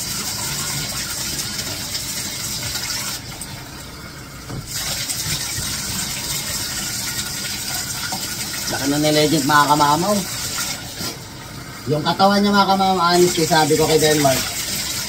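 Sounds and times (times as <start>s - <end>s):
running tap: 0.0s - 15.0s.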